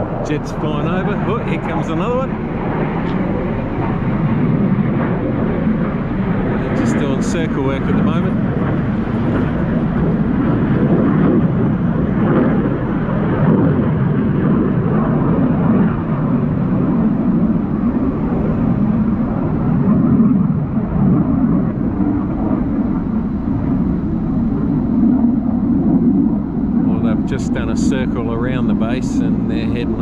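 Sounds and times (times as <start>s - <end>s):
distant jet engine roar: 0.0s - 30.0s.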